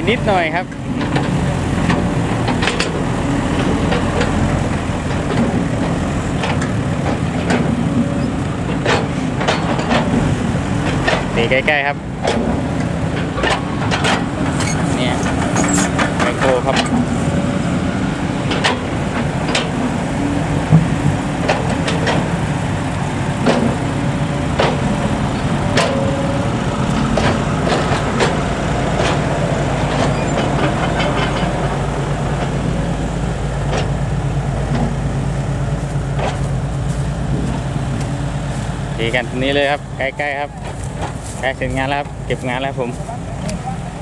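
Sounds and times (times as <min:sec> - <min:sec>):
diesel engine running: 0:00.0 - 0:44.0
knocks and clatter: 0:00.5 - 0:43.6.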